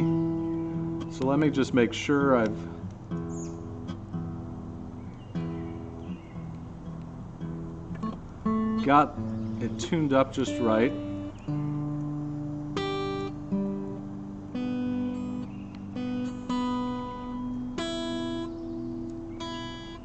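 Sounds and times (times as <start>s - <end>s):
guitar strings plucked: 0.0s - 20.0s.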